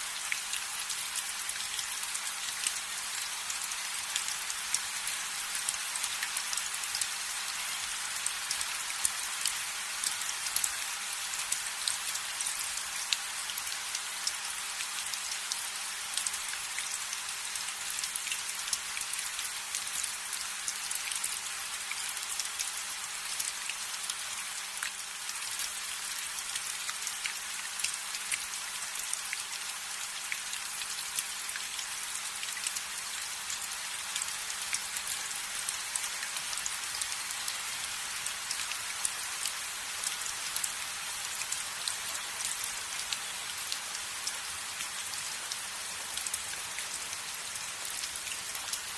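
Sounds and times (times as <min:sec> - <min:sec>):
rain on a window: 0:00.0 - 0:48.9.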